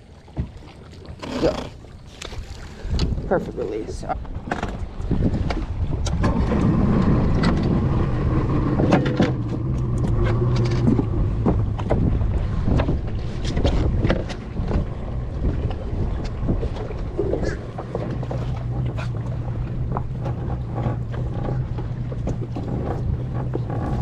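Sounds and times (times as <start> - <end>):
water rushing: 0.0 - 4.9, 5.6 - 24.0
wind buffeting the microphone: 1.4 - 24.0.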